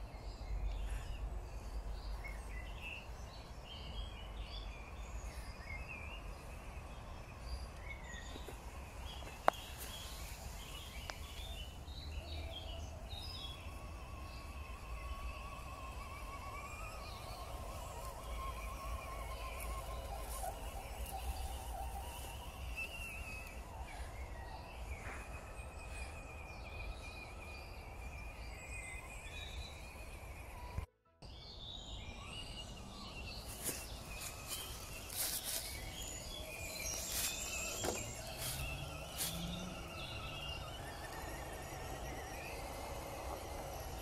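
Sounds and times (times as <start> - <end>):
bird calls: 0.0 - 30.8, 31.5 - 44.0
toy car motor whine: 6.3 - 30.9, 32.2 - 44.0.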